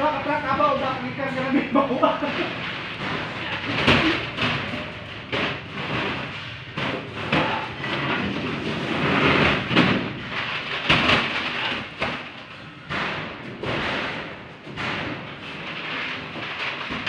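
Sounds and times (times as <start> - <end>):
hollow rumble of metal cargo box: 0.0 - 17.0
plastic containers knocking and thumping: 0.0 - 17.0.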